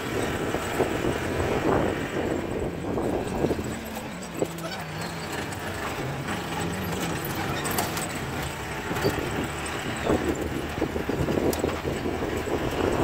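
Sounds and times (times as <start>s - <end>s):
car engine running: 0.0s - 13.0s
vehicle body rattling and knocking: 0.0s - 13.0s.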